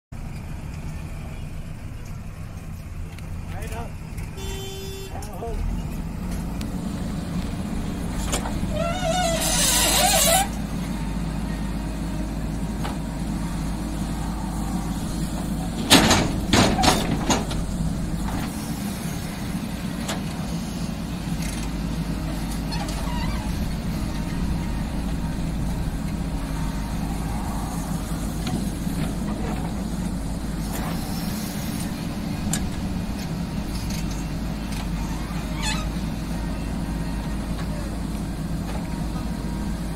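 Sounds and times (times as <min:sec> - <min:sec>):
diesel engine running: 0:00.1 - 0:39.9.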